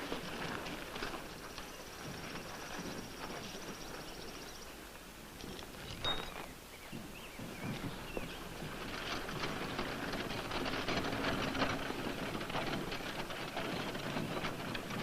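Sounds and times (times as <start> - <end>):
wooden wagon rattling: 0.0 - 15.0.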